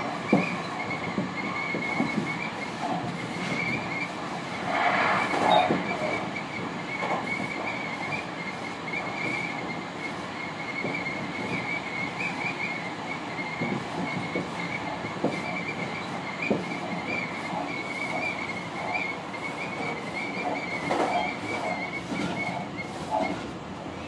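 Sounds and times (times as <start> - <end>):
train car rumble: 0.0 - 24.0.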